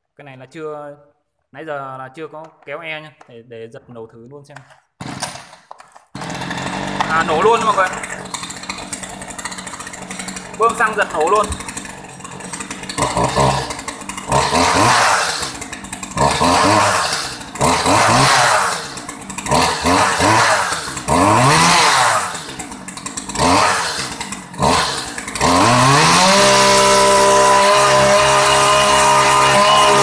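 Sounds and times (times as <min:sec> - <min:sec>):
chainsaw engine revving: 0:05.0 - 0:05.6, 0:06.2 - 0:30.0.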